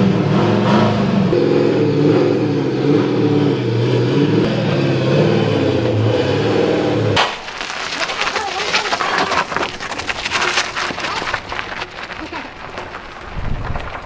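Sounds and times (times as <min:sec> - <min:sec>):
car engine revving: 0:00.0 - 0:11.5.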